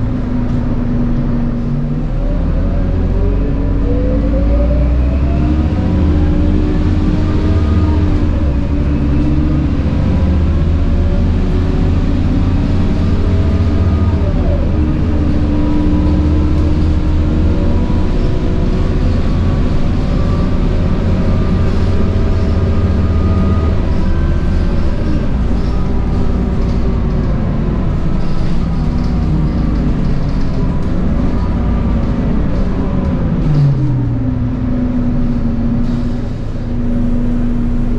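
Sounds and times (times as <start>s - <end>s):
bus engine rumble: 0.0s - 37.9s.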